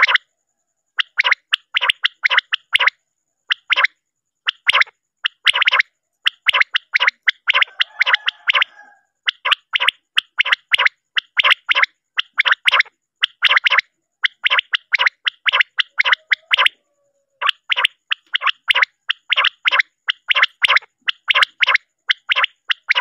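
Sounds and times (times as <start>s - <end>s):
quail calling: 0.0s - 0.2s, 1.0s - 23.0s.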